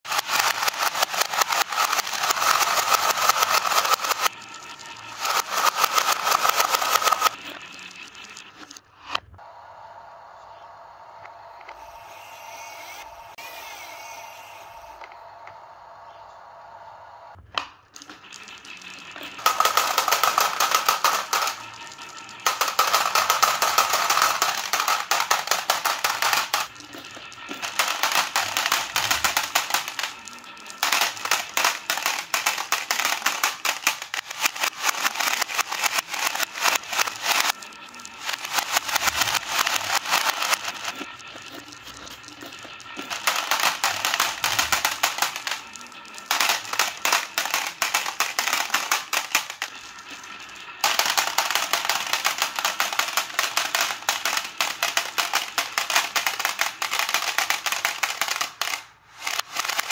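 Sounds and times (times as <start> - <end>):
marbles dropping into plastic truck: 0.1 - 7.9, 17.6 - 59.9.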